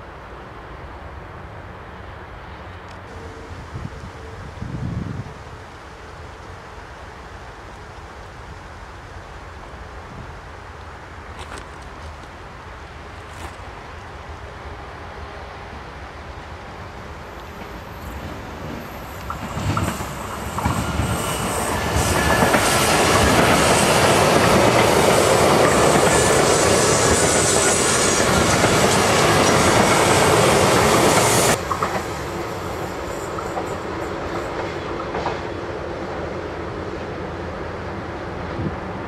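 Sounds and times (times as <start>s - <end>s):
train passing close by: 0.0s - 39.0s.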